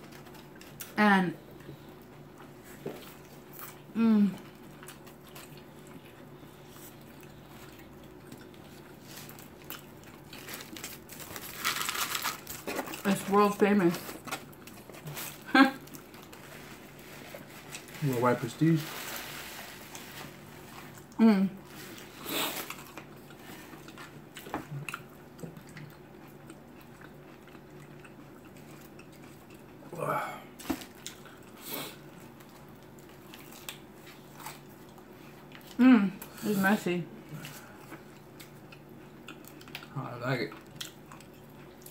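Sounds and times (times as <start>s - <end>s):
people chewing: 0.0s - 36.6s, 37.2s - 41.9s
steady low hum: 0.0s - 41.9s.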